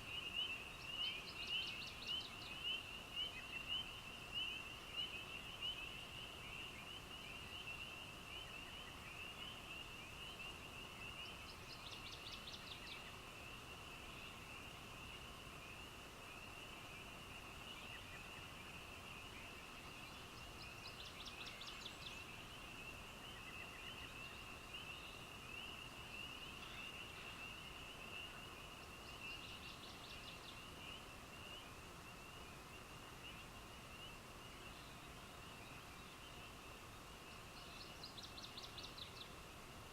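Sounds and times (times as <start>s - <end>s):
night chorus of calling animals: 0.0s - 39.5s.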